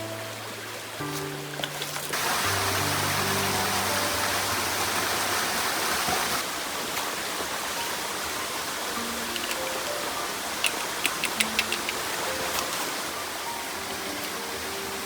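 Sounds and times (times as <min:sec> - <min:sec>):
soft background music: 0:00.0 - 0:06.4, 0:07.1 - 0:15.0
rushing water: 0:00.0 - 0:15.0.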